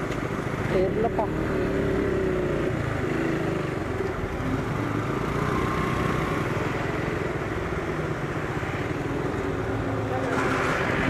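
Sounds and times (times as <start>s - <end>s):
vehicle engines running nearby: 0.0s - 11.0s.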